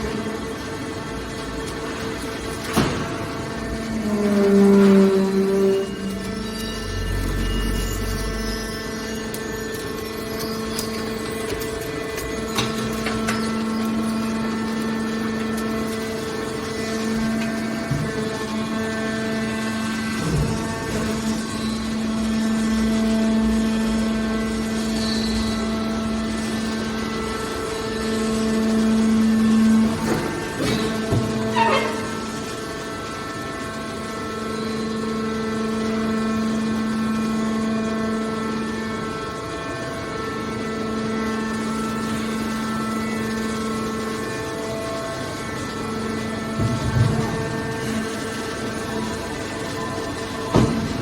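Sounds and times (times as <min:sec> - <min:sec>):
hydraulic baler droning: 0:00.0 - 0:51.0.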